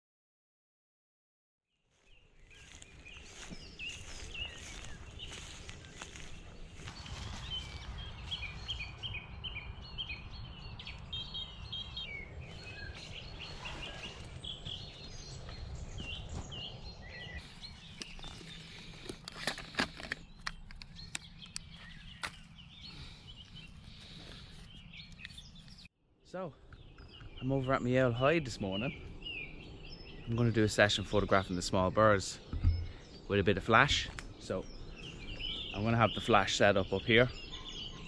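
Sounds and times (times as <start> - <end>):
small songbirds chirping: 1.8 - 38.0.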